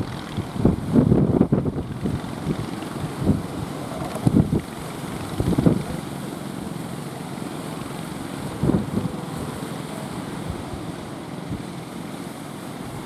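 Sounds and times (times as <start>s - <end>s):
wind buffeting microphone: 0.0s - 6.8s, 7.8s - 11.8s
speedboat engine running: 0.0s - 13.0s
waves around hull: 0.0s - 13.0s.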